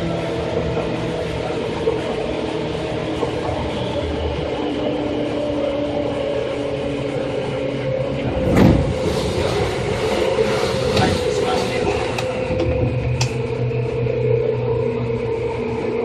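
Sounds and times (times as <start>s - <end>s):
train wheel and motor noise: 0.0s - 16.0s.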